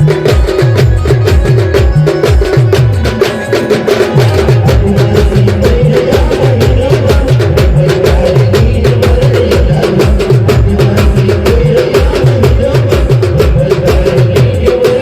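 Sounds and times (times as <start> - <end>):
band playing fast music: 0.0 - 15.0
held melody line: 0.0 - 15.0.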